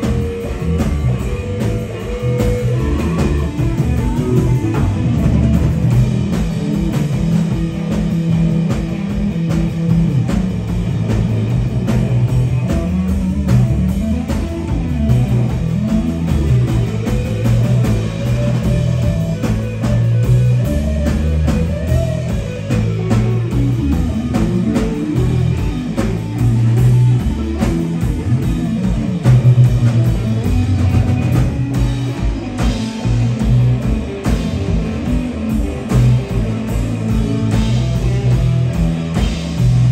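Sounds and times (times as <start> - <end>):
bending melodic guitar line: 0.0 - 39.9
live rock band playing: 0.0 - 39.9.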